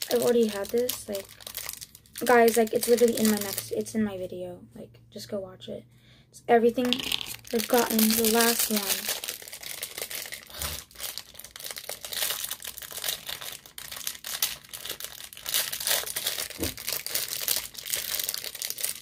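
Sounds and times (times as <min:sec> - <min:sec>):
plastic wrapper crinkling and tearing: 0:00.0 - 0:03.9, 0:06.8 - 0:19.0.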